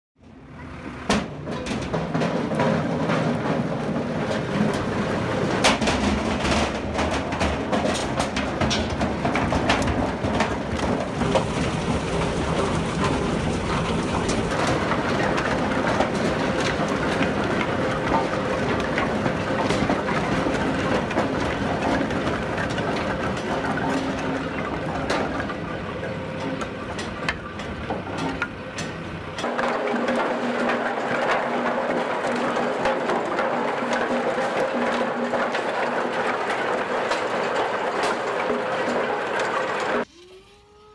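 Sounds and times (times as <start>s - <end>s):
machine rumble: 0.2s - 40.9s
firewood clattering and knocking: 1.1s - 40.1s.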